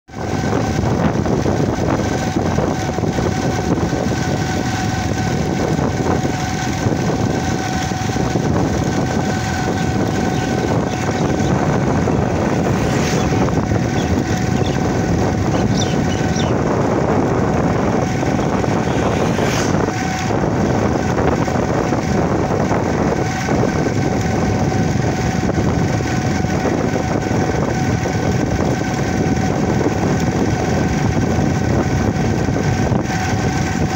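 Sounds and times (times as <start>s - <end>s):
engine running with whine: 0.1s - 33.9s
wind rumbling on microphone: 0.1s - 33.9s.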